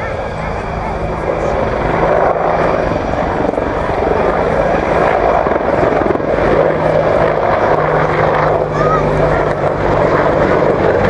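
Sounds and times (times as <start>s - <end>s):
helicopter engine hum: 0.0s - 11.0s
helicopter rotor chopping: 0.0s - 11.0s.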